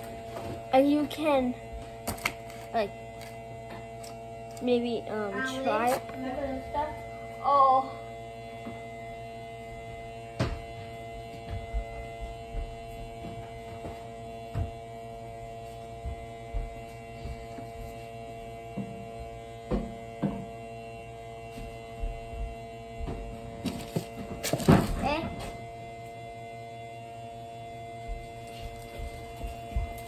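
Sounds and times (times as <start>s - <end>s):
steady multi-tone hum: 0.0s - 30.0s.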